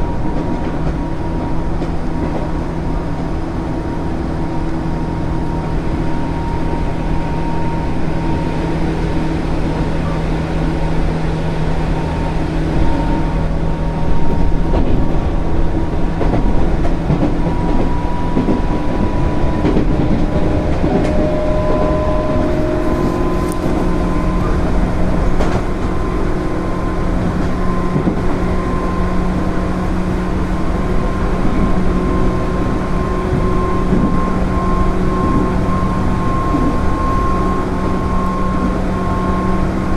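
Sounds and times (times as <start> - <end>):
electric train motor whine: 0.0 - 39.9
wheels rumbling on rail: 0.0 - 39.9.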